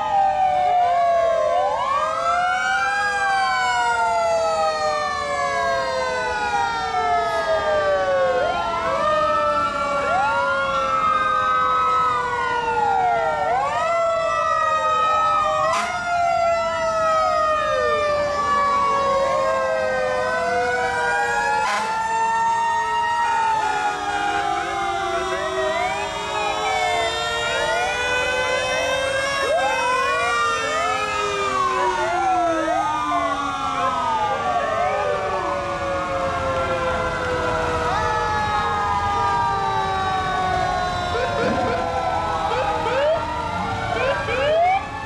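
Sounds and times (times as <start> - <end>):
fire engine sirens wailing: 0.0 - 45.0.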